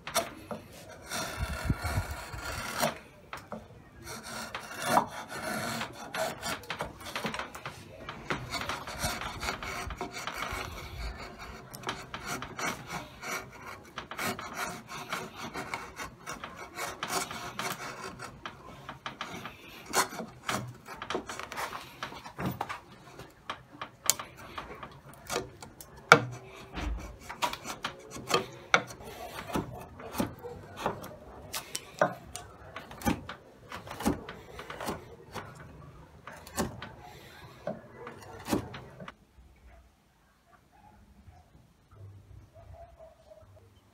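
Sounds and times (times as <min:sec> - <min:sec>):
chisel scraping through wood: 0:00.0 - 0:39.2
wood curls snapping: 0:00.0 - 0:39.2.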